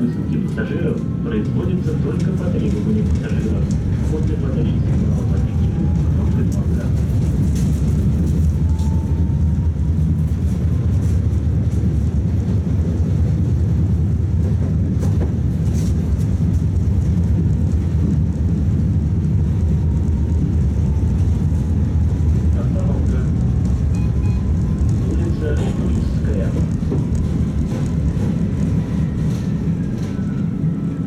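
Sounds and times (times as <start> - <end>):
tram wheels rumbling: 0.0 - 31.0.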